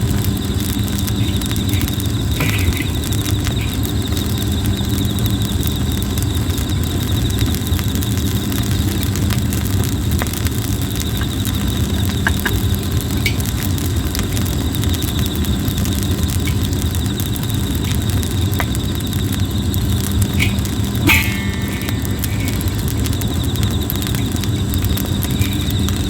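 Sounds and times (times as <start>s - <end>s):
campfire crackling and popping: 0.0s - 26.0s
insect trill: 0.0s - 26.0s
low rumbling hum: 0.0s - 26.0s.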